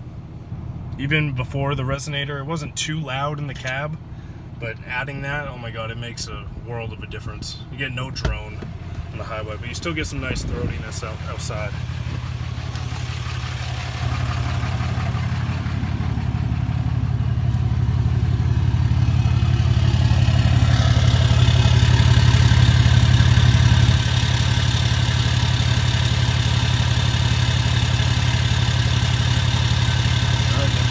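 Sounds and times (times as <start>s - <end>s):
diesel truck engine droning: 0.0s - 30.9s.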